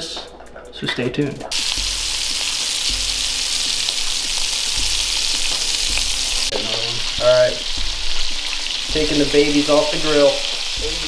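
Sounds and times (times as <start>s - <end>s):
meat sizzling on a grill: 1.5s - 11.0s.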